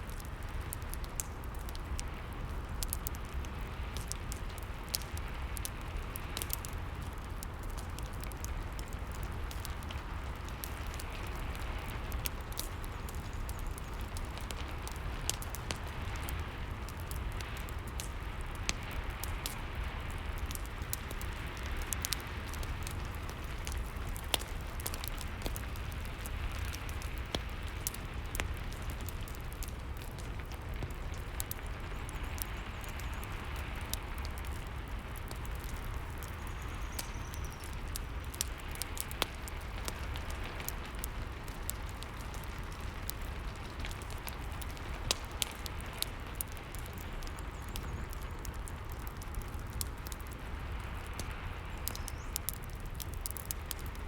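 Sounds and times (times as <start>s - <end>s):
fireplace crackling: 0.0s - 54.0s
steady rain: 0.0s - 54.0s.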